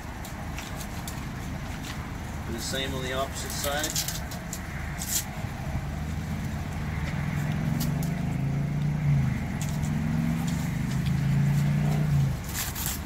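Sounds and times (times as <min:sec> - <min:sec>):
constant low rumble: 0:00.0 - 0:13.0.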